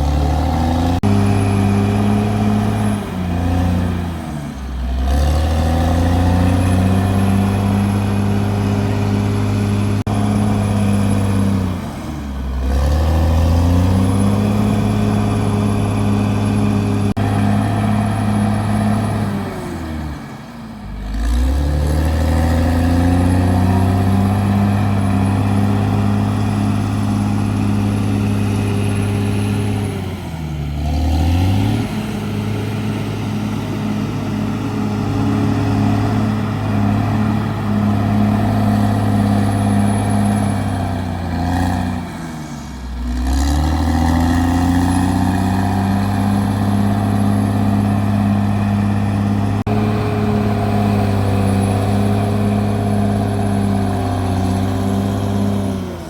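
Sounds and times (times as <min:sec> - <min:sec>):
bulldozer diesel engine revving: 0:00.0 - 0:56.0.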